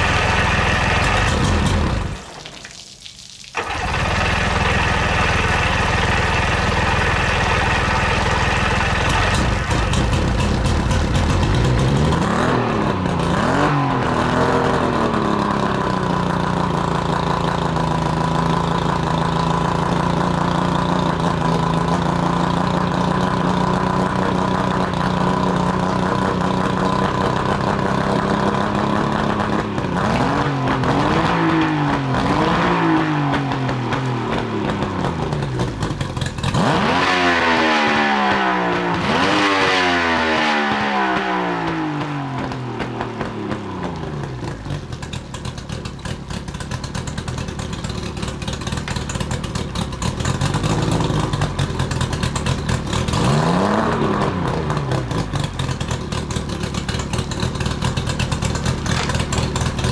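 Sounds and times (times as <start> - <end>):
outboard motor revving and idling: 0.0 - 2.4, 3.6 - 59.9.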